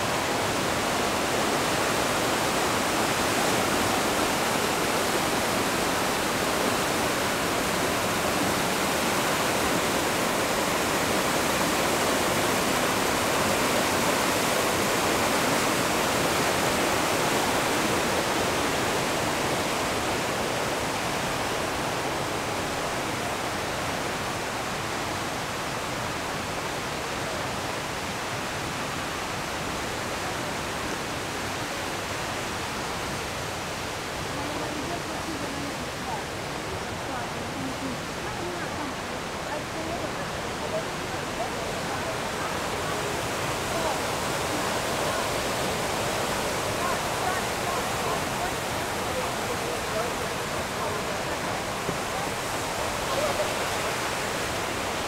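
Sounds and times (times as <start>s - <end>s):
rush of falling water: 0.0s - 55.0s.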